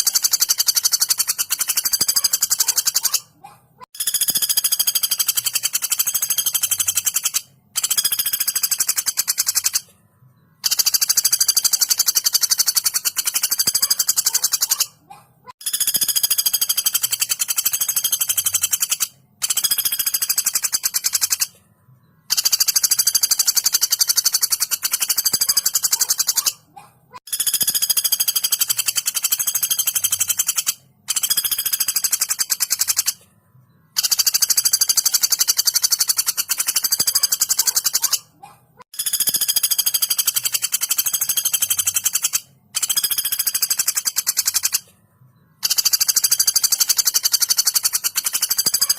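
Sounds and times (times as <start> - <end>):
woodpecker rattling trill: 0.0 - 21.6, 22.2 - 33.3, 33.9 - 45.0, 45.6 - 48.9.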